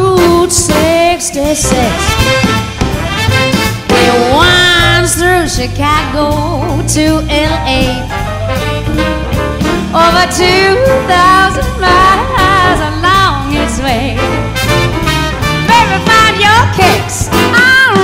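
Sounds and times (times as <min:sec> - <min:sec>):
swing music: 0:00.0 - 0:18.0.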